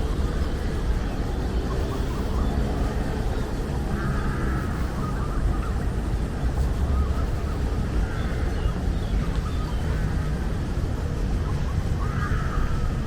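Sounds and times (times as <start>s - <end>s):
birds chirping: 0.0s - 13.0s
city traffic rumble: 0.0s - 13.0s.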